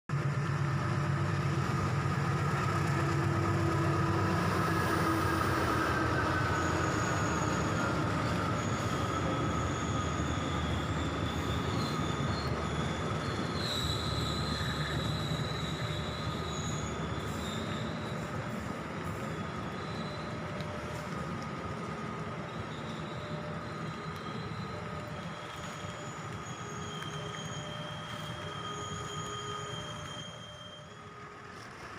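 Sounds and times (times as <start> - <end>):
train rolling past: 0.1 - 31.9
wheel squeal on rails: 0.2 - 31.9.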